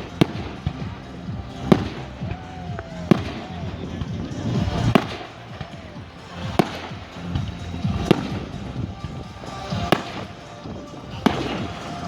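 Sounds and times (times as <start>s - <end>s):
fireworks banging: 0.0s - 12.0s
music playing: 0.0s - 12.0s.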